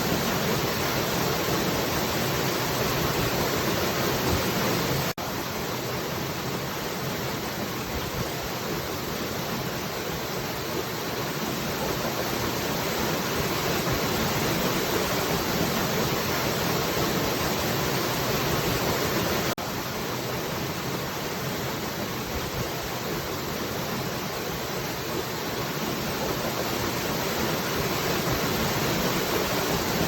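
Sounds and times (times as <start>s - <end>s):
falling water rushing: 0.0s - 30.0s.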